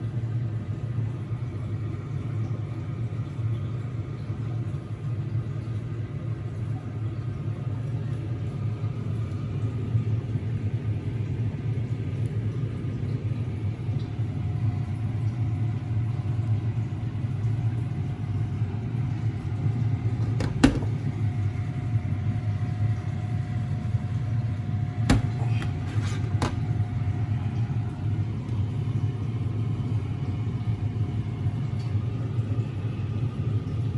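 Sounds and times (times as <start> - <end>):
low machine hum: 0.0 - 33.9.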